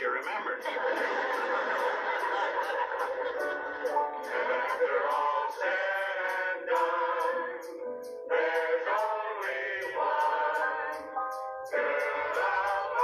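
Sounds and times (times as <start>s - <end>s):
steady beat: 0.0s - 13.0s
group singing in harmony: 0.2s - 13.0s.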